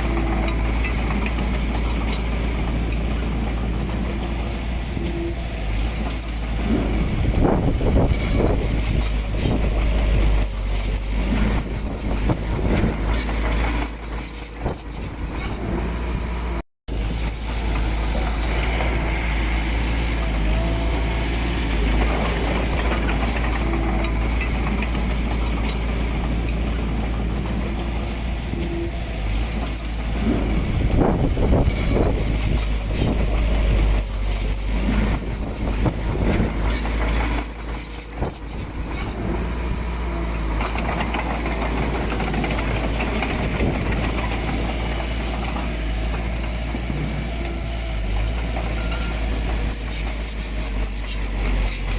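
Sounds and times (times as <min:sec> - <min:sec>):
heavy machinery diesel rumble: 0:00.0 - 0:51.9.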